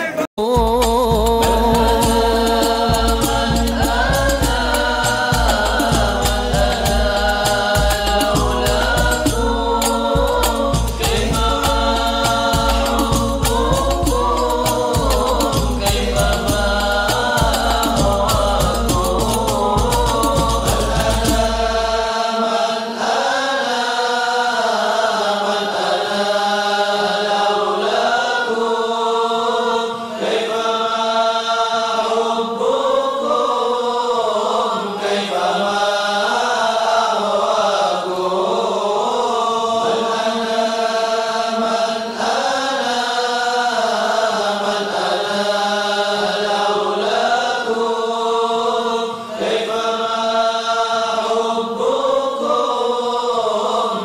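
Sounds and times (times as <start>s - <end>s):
person singing devotional chant: 0.0s - 54.0s.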